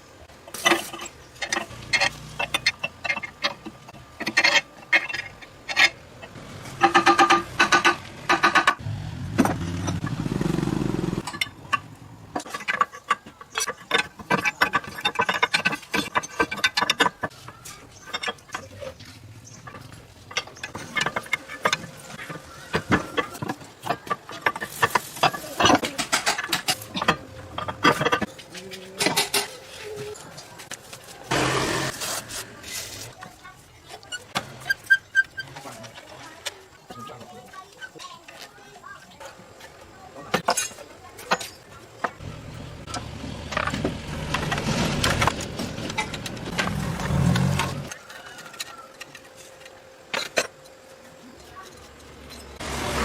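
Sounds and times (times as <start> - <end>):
tools and metal parts clattering: 0.5 - 10.1, 11.2 - 52.7.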